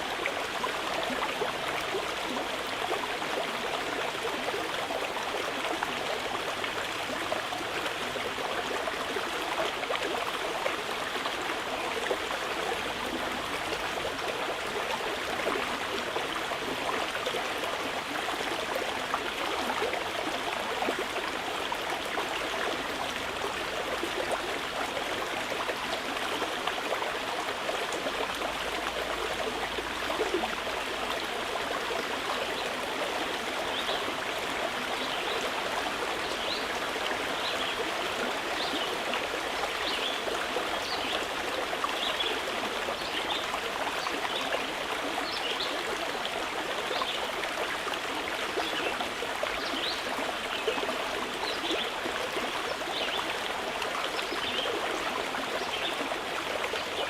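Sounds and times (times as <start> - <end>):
river water rushing and babbling: 0.0 - 57.0.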